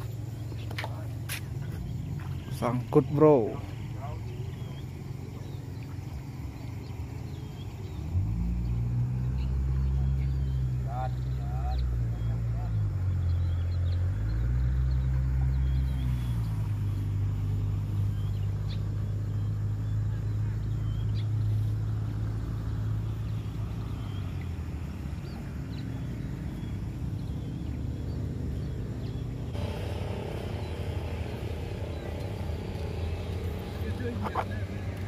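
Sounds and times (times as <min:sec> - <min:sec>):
distant motor engine humming: 0:00.0 - 0:35.0.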